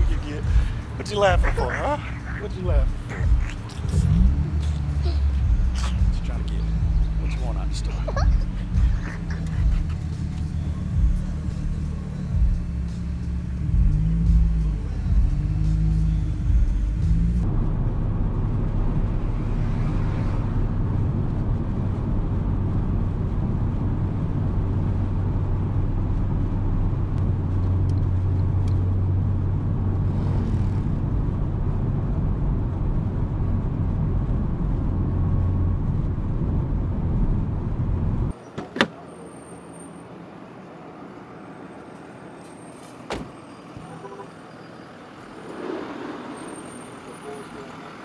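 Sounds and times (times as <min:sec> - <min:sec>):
car driving rumble: 0:00.0 - 0:48.0.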